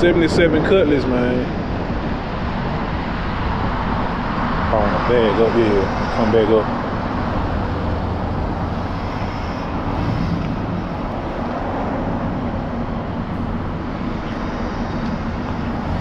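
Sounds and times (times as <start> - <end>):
vehicle engine running: 0.3 - 16.0.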